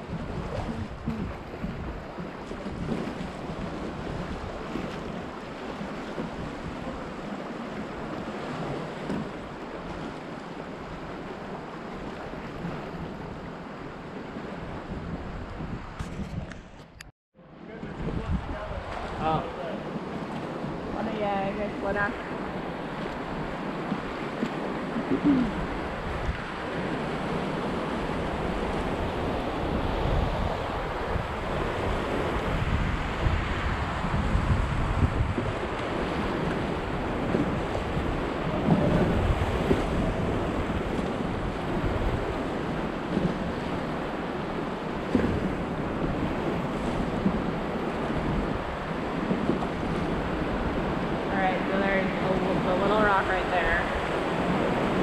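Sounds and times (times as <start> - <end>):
river water rushing around raft: 0.0 - 16.0, 17.4 - 55.0
wind buffeting microphone: 0.0 - 17.1, 17.7 - 55.0.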